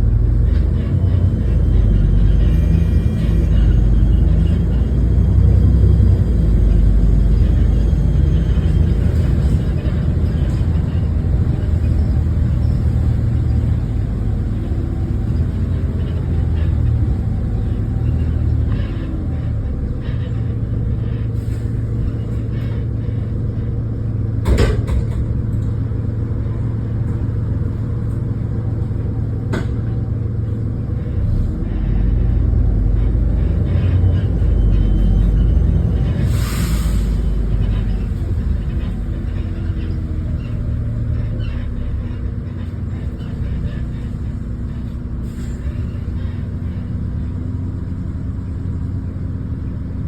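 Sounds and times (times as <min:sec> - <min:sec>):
bus diesel engine rumble: 0:00.0 - 0:50.0.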